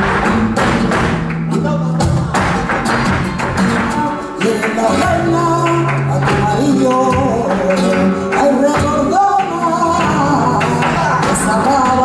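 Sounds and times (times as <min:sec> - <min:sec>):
flamenco guitar: 0:00.0 - 0:12.0
person singing flamenco: 0:00.0 - 0:12.0.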